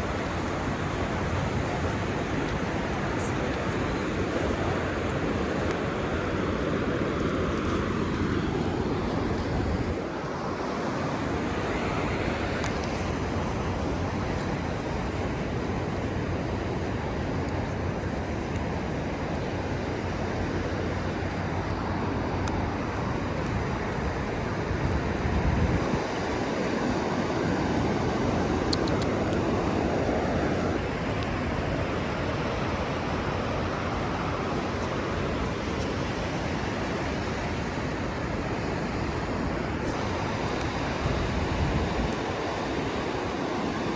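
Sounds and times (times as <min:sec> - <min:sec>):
ocean surf: 0:00.0 - 0:43.9
wind: 0:00.0 - 0:43.9
wind buffeting microphone: 0:00.0 - 0:43.9.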